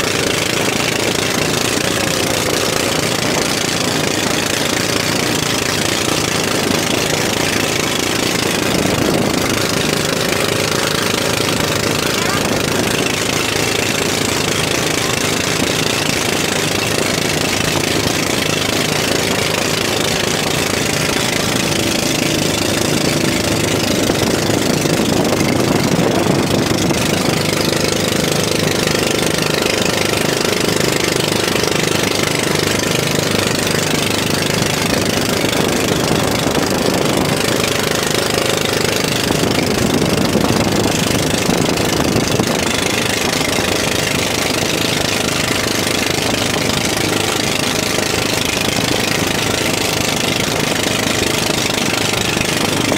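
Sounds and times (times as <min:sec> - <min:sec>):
boat engine running: 0:00.0 - 0:52.9.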